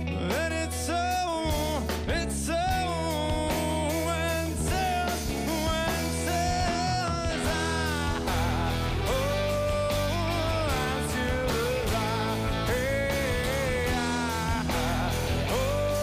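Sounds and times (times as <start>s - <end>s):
drum kit: 0.0s - 16.0s
electric bass guitar: 0.0s - 16.0s
guitar: 0.0s - 16.0s
man singing lead vocals: 0.0s - 16.0s.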